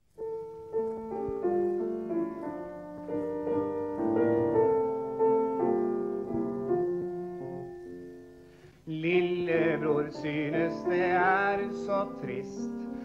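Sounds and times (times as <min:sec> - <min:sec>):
keyboard melody over chords: 0:00.1 - 0:13.0.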